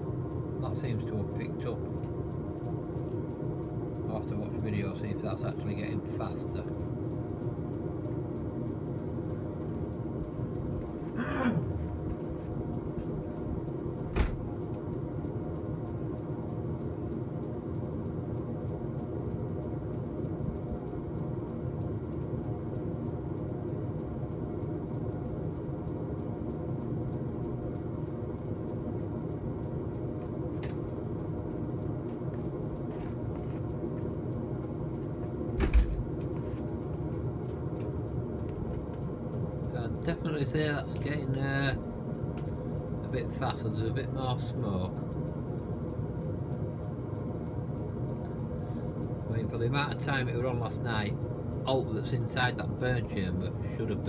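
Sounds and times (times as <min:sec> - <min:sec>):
air heater humming: 0:00.0 - 0:54.0
faint rapid ticking: 0:00.0 - 0:54.0.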